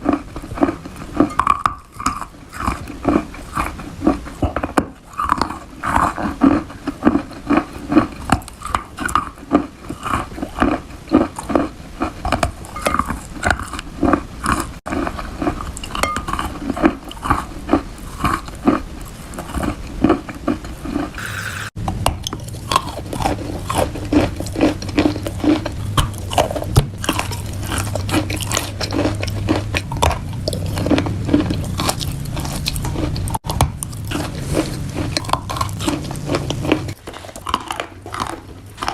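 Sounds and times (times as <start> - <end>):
chewing wet chalk: 0.0 - 21.2, 22.2 - 38.9.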